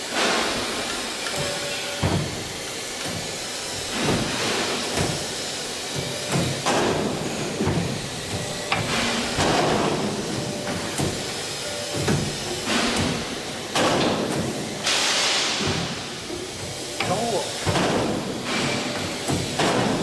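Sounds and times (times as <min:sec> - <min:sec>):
machine hiss: 0:00.0 - 0:20.0.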